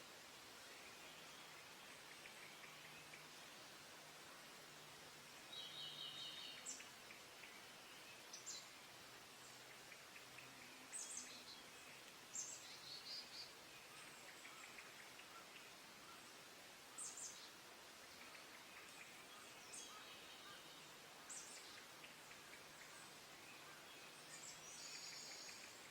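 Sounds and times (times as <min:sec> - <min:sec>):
outdoor background hiss: 0:00.0 - 0:25.9
wild birdsong chirps and trills: 0:00.0 - 0:25.9.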